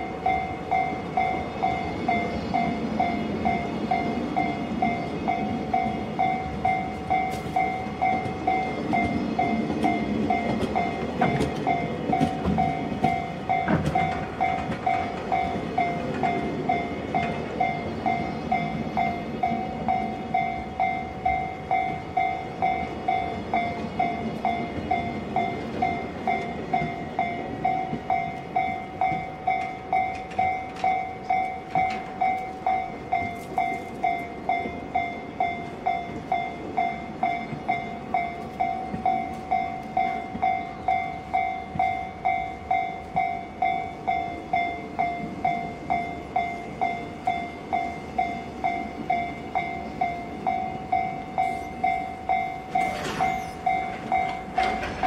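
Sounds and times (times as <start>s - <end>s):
freight train rumbling and clattering: 0.0s - 55.0s
ringing crossing alarm: 0.0s - 55.0s.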